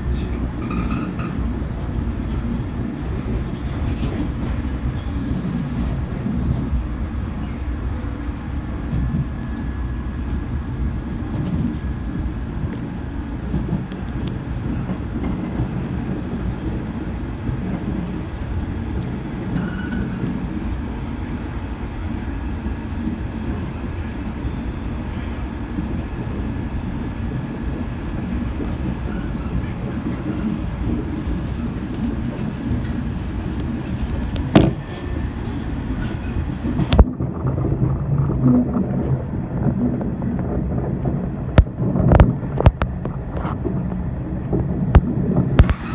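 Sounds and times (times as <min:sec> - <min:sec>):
electric train rumbling on rails: 0:00.0 - 0:45.9.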